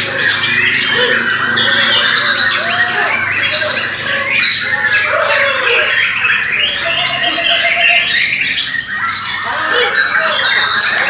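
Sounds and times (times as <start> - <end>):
other songbirds chirping and trilling: 0.0 - 11.0.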